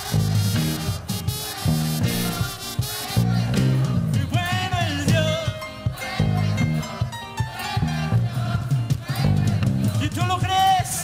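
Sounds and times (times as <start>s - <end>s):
live praise band music: 0.0s - 11.0s.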